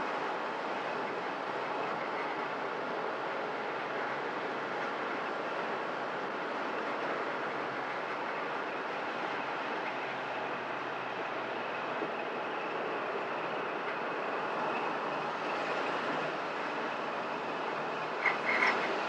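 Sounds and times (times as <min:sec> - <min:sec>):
road and engine noise in car: 0:00.0 - 0:19.0.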